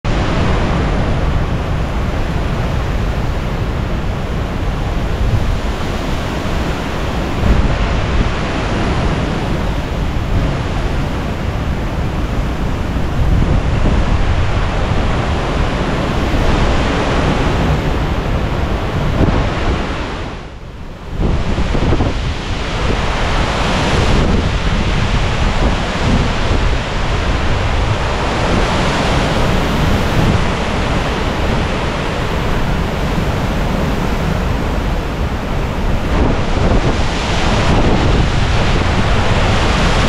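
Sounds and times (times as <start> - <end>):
hurricane wind rushing: 0.0 - 40.0
wind buffeting microphone: 0.1 - 40.0.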